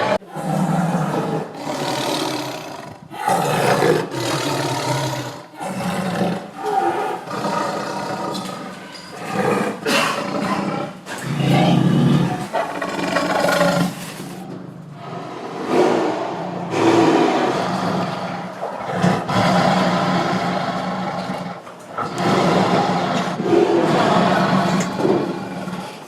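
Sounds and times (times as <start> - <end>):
tiger roaring: 0.0 - 26.0.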